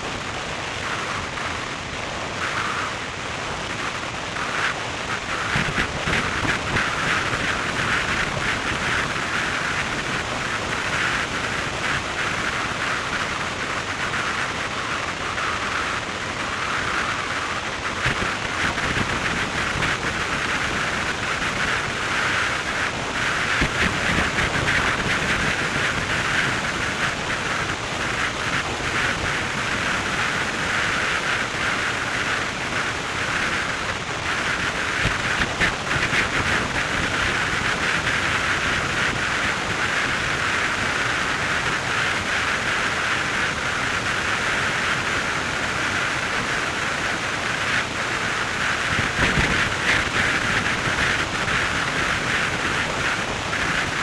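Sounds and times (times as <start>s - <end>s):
wind rushing past driving car: 0.0s - 54.0s.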